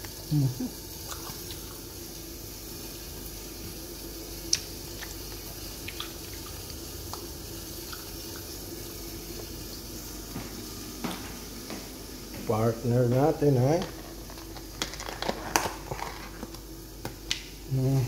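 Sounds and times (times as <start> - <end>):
kitchen background hum: 0.0 - 18.0.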